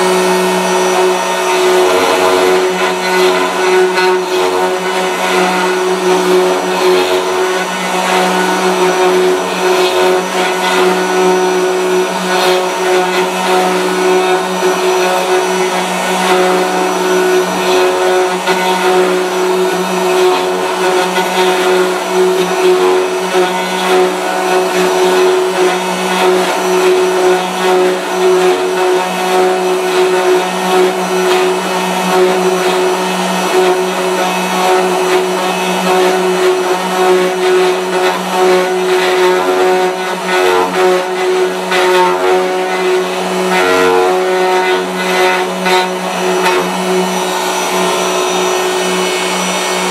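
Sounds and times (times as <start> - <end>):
router motors cutting wood: 0.0 - 49.9.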